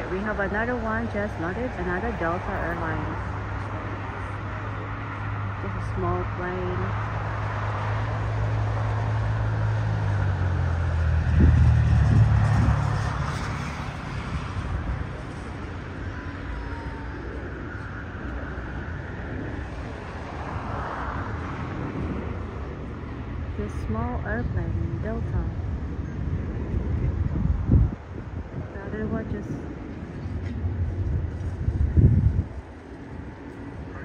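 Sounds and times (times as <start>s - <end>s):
airport and road traffic rumble: 0.0s - 34.0s.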